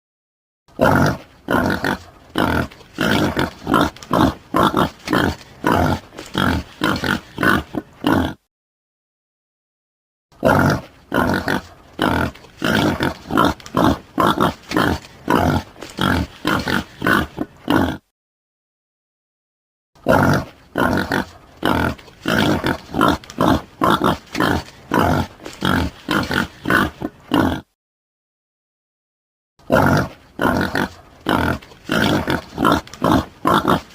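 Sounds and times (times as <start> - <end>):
boar grunting: 0.7 - 8.5, 10.4 - 18.1, 20.0 - 27.8, 29.6 - 33.9.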